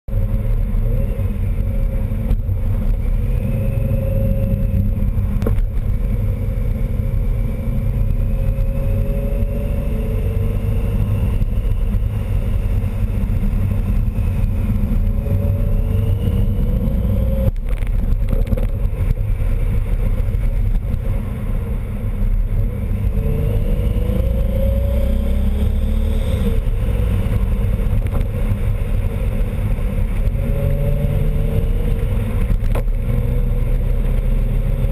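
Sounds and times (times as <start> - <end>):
engine drone: 0.1 - 34.9.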